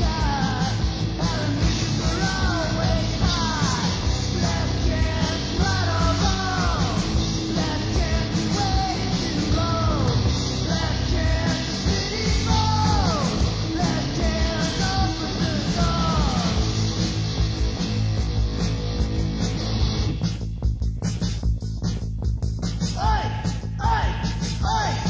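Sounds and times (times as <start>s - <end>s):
punk rock band playing: 0.0s - 25.0s.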